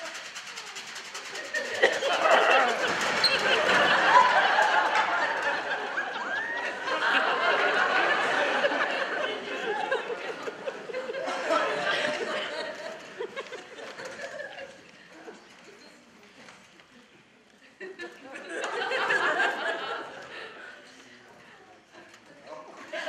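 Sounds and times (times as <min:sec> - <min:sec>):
audience laughing: 0:01.2 - 0:15.4, 0:17.6 - 0:23.0.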